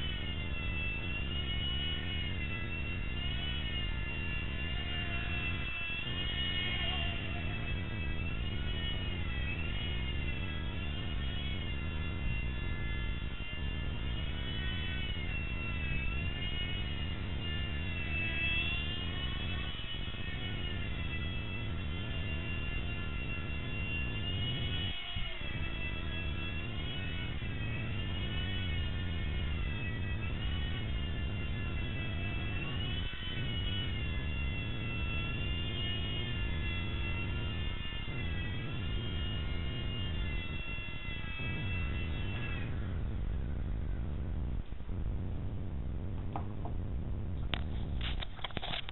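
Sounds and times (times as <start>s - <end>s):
small helicopter rotor whine: 0.0s - 48.9s
steady low rumble: 0.0s - 48.9s.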